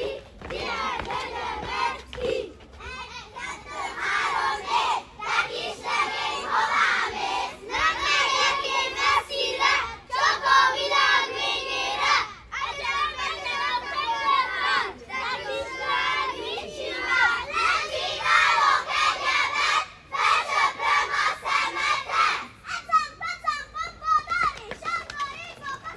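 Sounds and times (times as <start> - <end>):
children shouting: 0.0 - 25.9.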